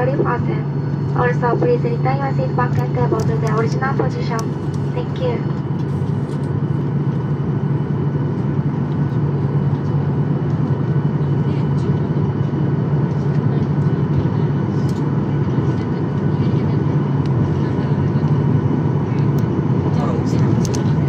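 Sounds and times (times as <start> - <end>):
aircraft cabin engine drone: 0.0 - 21.0
thin steady engine whine: 0.0 - 21.0.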